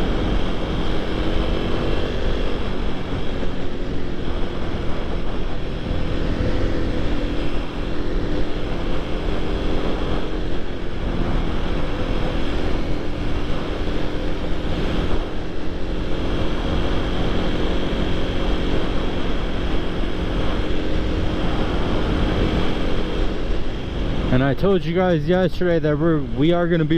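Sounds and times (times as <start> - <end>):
motorcycle engine running: 0.0 - 26.9
wind and road noise: 0.0 - 26.9.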